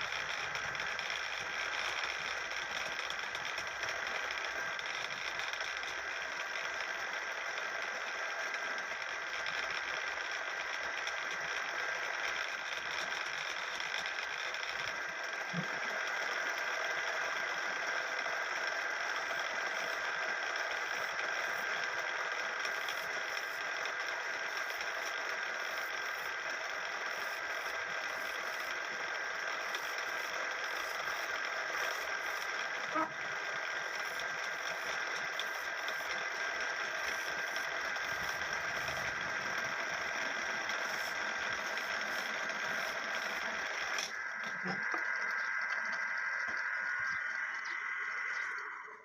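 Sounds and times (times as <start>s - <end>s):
lathe humming: 0.0s - 49.0s.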